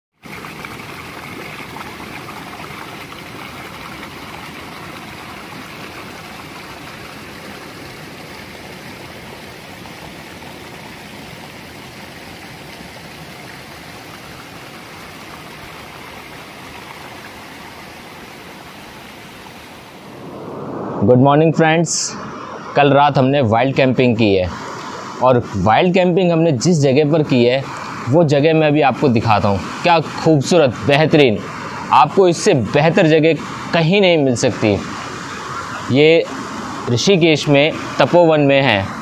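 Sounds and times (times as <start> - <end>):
stream rushing over rocks: 0.2 - 20.3, 22.8 - 39.0.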